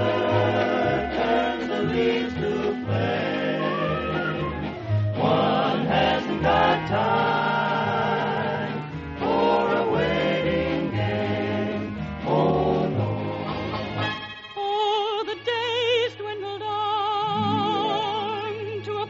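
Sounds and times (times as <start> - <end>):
choir singing: 0.0 - 14.1, 17.3 - 18.6
orchestral accompaniment: 0.0 - 16.4, 17.2 - 19.0.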